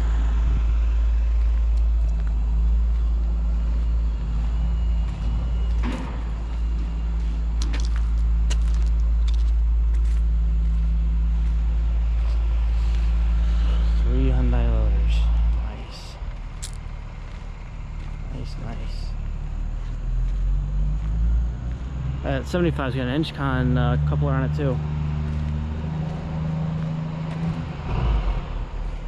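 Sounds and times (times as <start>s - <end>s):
engine running with low rumble: 0.0s - 29.0s.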